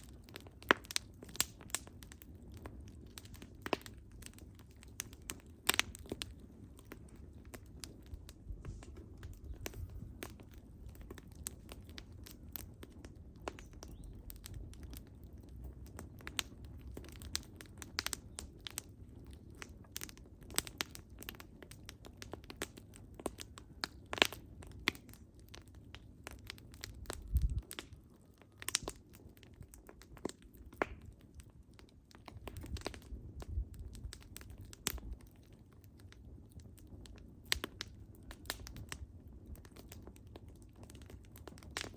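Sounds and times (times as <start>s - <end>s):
low rumble of burning logs: 0.0s - 41.9s
wood fire crackling: 0.0s - 41.9s.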